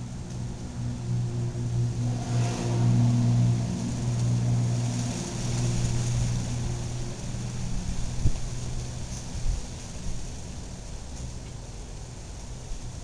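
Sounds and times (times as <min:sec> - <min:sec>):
air swishing from fan blades: 0:00.0 - 0:13.0
ceiling fan motor hum: 0:00.0 - 0:13.0.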